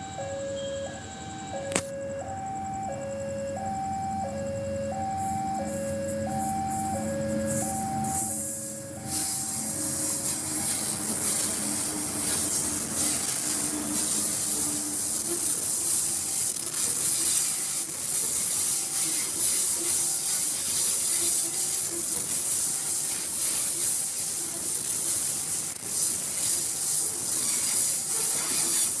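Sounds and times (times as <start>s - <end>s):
train wheels on rails: 5.5s - 29.0s.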